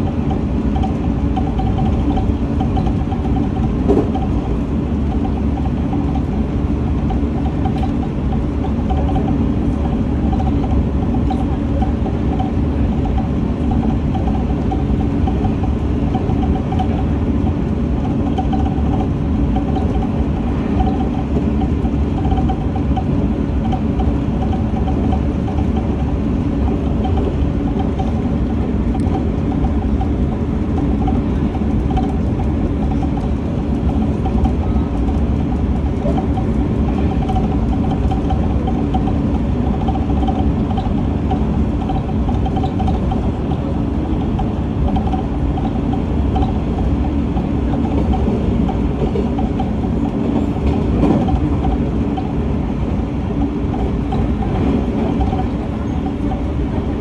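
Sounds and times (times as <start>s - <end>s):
freight train passing: 0.0s - 57.0s
train wheels rumbling on rail: 0.0s - 57.0s.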